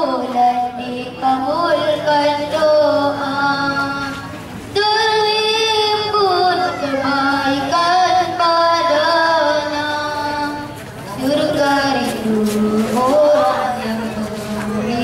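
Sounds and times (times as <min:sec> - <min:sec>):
boy singing into a microphone: 0:00.0 - 0:15.0.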